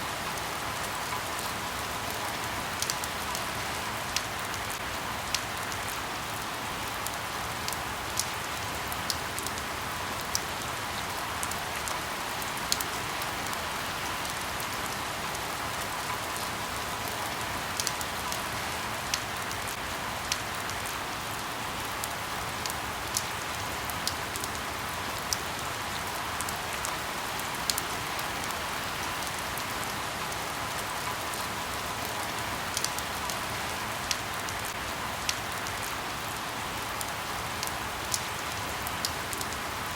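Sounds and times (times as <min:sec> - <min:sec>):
light rain pattering on leaves: 0:00.0 - 0:39.9.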